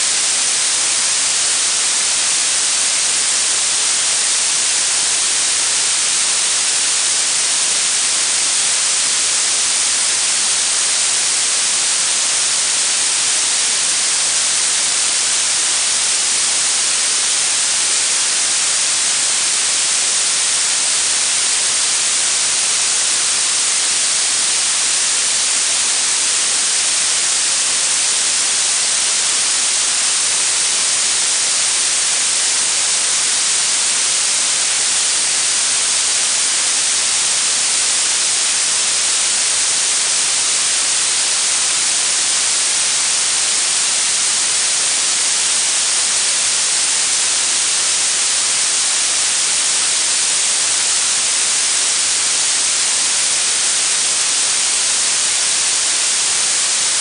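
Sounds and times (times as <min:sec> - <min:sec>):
synthetic hiss: 0:00.0 - 0:57.0.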